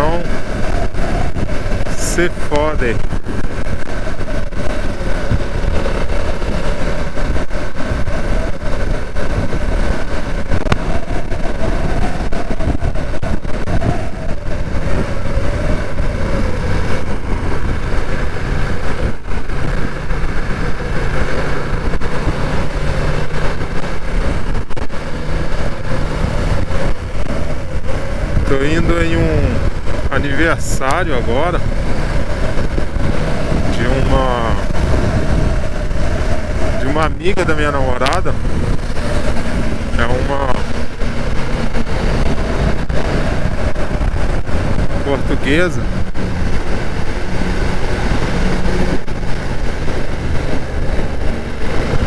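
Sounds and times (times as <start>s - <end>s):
motorcycle engine running: 0.0s - 52.0s
wind rush: 0.0s - 52.0s.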